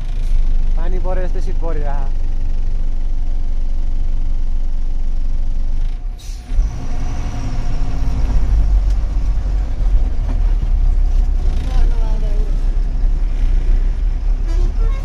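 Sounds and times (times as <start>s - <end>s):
truck diesel engine rumbling: 0.0s - 15.0s.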